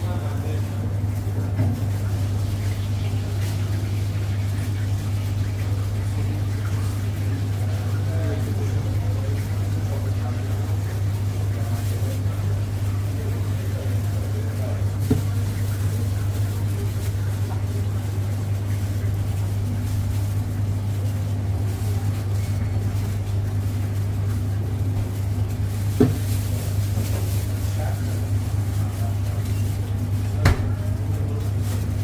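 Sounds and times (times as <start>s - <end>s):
kitchen equipment humming: 0.0s - 32.0s.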